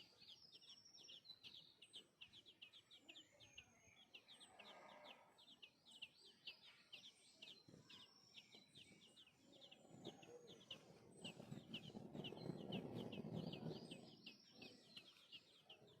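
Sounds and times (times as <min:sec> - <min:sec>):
nestling birds chirping: 0:00.0 - 0:16.0.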